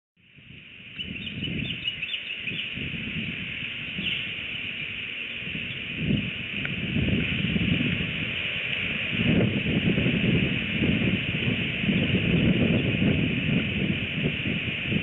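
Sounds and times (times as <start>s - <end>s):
steady high hiss: 0.2s - 15.0s
wind gusting on microphone: 0.2s - 15.0s.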